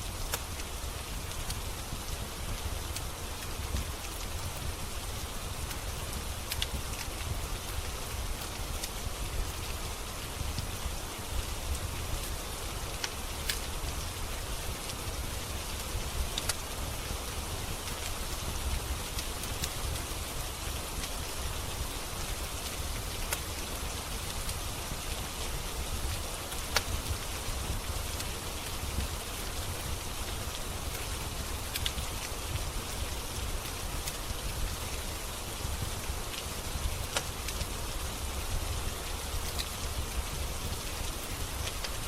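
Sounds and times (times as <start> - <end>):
steady rain falling: 0.0 - 42.0
wood fire crackling and popping: 0.0 - 42.0.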